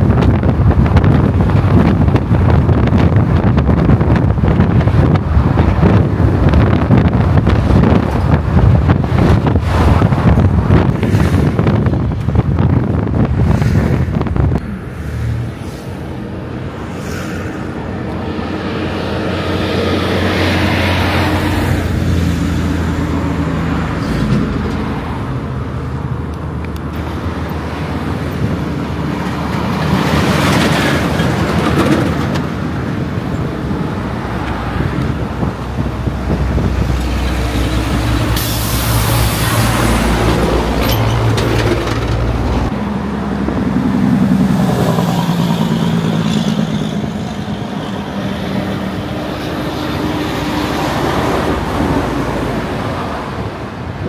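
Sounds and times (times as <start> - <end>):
highway traffic passing: 0.0 - 54.0.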